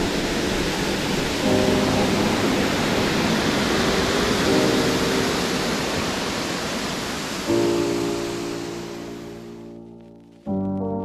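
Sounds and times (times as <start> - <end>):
waterfall roaring over rocks: 0.0 - 9.6.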